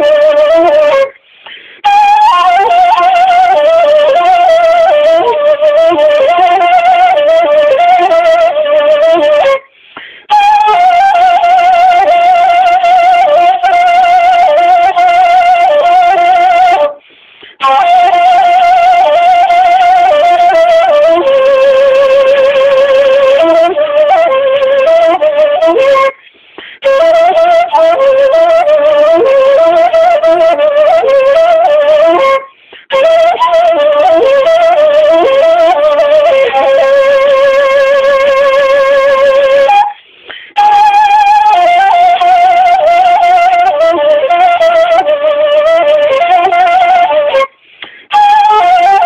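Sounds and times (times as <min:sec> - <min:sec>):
solo woodwind folk melody: 0:00.0 - 0:49.0.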